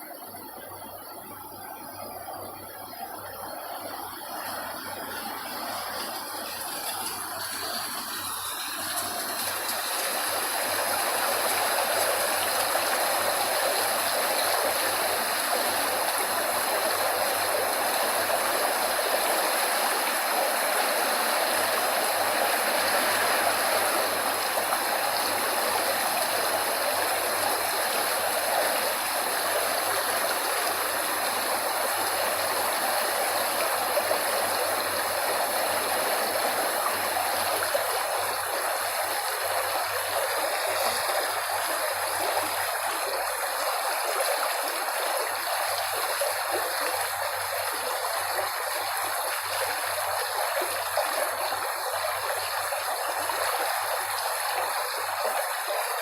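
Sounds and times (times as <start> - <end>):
water rushing like a stream: 0.0 - 56.0.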